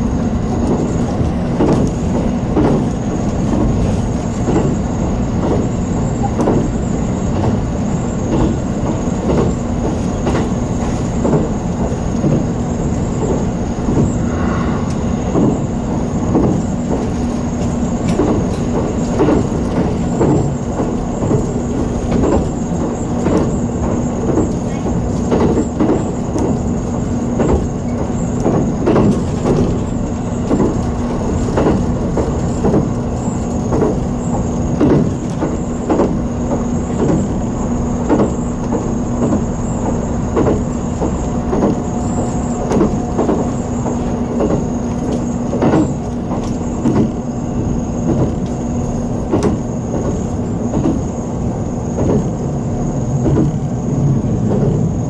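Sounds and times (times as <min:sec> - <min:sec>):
steady train hum: 0:00.0 - 0:55.0
train wheels clicking: 0:00.0 - 0:55.0.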